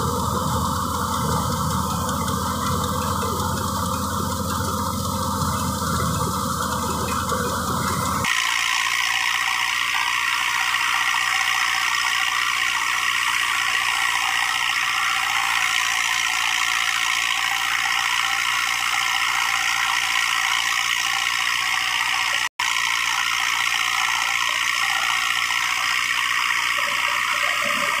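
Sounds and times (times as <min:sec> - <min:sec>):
thresher running: 0:00.0 - 0:28.0.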